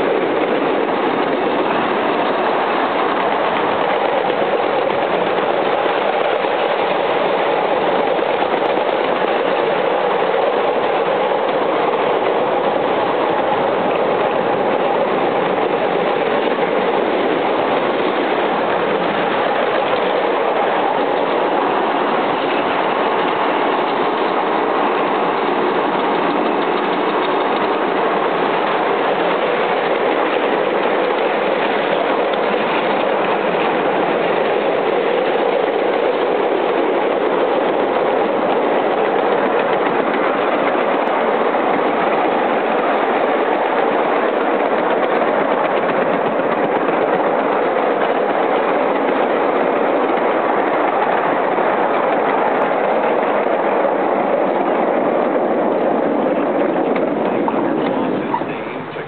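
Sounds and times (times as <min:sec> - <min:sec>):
miniature train wheels on rails: 0:00.0 - 0:59.0.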